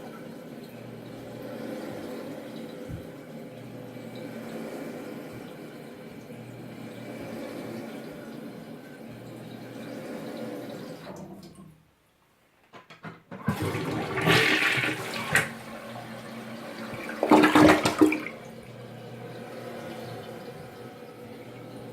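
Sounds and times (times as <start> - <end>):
toilet tank refilling: 0.0 - 11.8, 12.8 - 21.9
toilet flushing: 0.0 - 11.9, 12.8 - 21.9.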